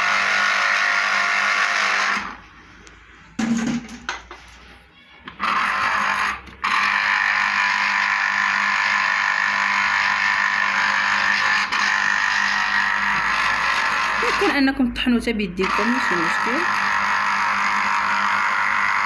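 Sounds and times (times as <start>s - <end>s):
electric blender grinding: 0.0s - 2.4s, 5.3s - 14.8s, 15.6s - 19.0s.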